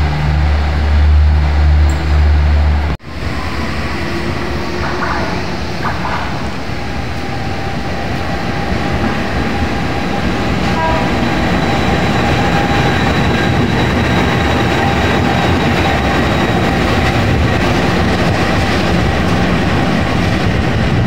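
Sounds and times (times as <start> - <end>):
diesel locomotive engine: 0.0 - 21.0
wheels rumbling on rails: 0.0 - 21.0.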